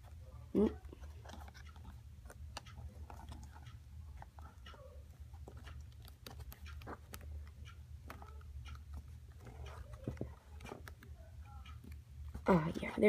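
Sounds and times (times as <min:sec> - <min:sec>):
low steady hum: 0:00.0 - 0:13.0
fingers handling plastic case: 0:00.8 - 0:12.4.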